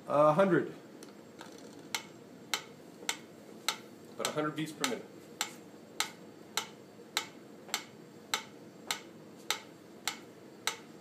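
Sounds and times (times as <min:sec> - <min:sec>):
metronome clicking: 0:01.9 - 0:10.9.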